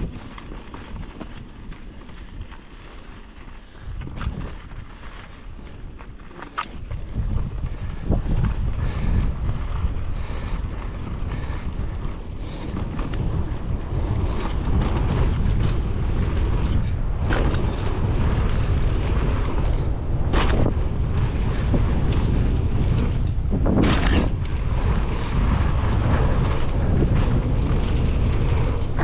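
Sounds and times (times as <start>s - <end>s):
bike clattering: 0.0s - 29.0s
wind buffeting microphone: 0.0s - 29.0s.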